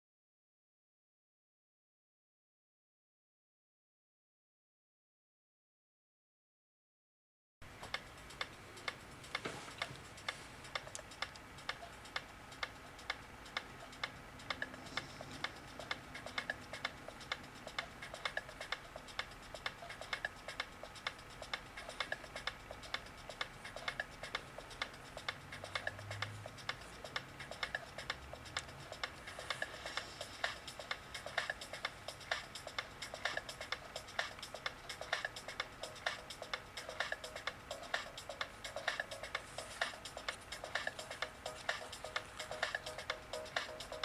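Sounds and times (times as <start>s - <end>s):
regular ticking: 7.7s - 44.0s.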